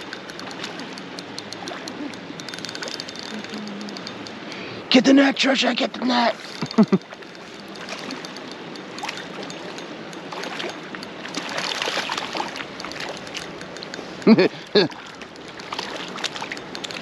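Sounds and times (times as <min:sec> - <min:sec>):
fish splashing: 0:00.0 - 0:04.8, 0:06.3 - 0:17.0
rushing stream water: 0:00.0 - 0:17.0.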